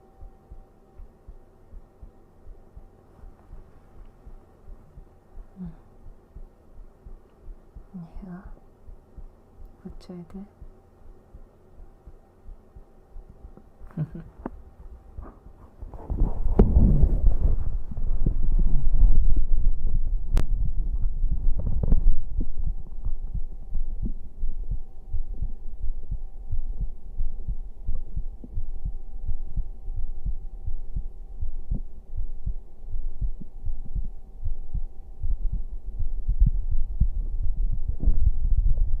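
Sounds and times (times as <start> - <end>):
faint steady hum: 0.0 - 39.0
heartbeat thumps: 0.0 - 39.0.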